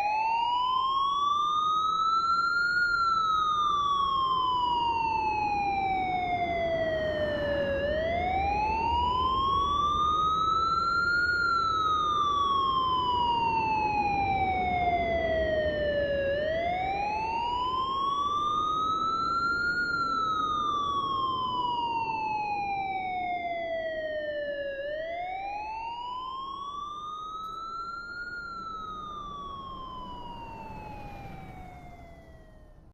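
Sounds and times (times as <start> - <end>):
siren wailing: 0.0 - 32.9.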